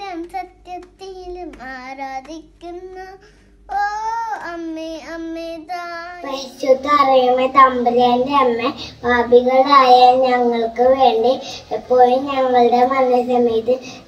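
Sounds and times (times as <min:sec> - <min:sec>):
girl singing: 0:00.0 - 0:14.0.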